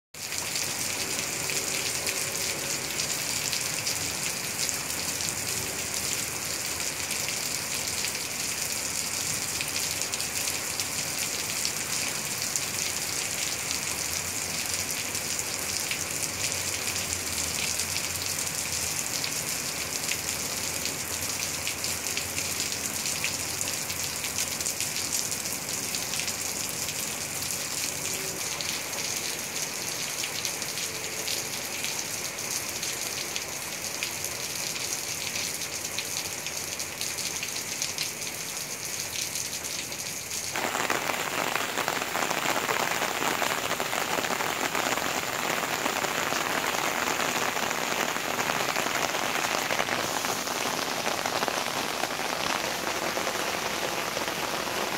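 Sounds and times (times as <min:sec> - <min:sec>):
rain on wet pavement: 0:00.2 - 0:54.9.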